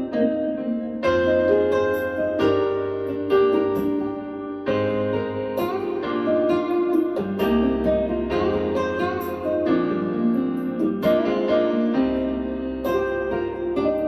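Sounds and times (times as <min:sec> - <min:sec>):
piano music over speakers: 0:00.0 - 0:14.0.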